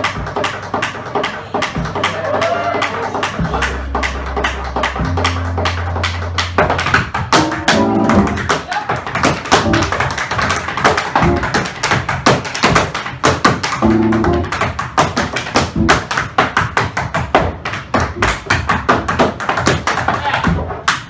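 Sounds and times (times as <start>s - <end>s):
tap shoes tapping on stage: 0.0s - 21.0s.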